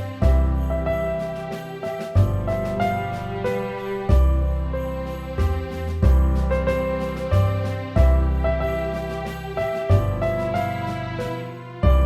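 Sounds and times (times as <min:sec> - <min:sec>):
instrumental christmas music: 0:00.0 - 0:12.0.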